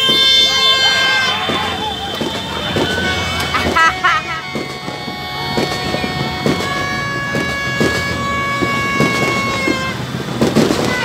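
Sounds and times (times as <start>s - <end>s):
fireworks bangs: 0.0s - 11.0s
long horn blasts: 0.0s - 11.0s.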